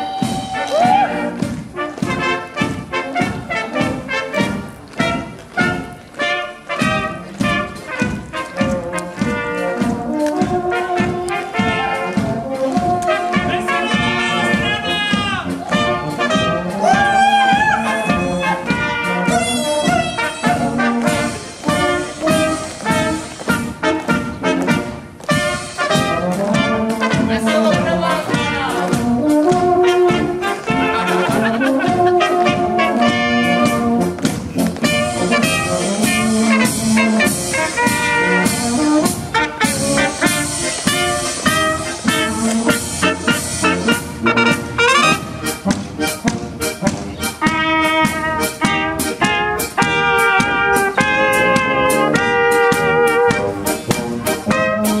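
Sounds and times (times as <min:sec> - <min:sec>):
marching brass band playing: 0:00.0 - 0:55.0.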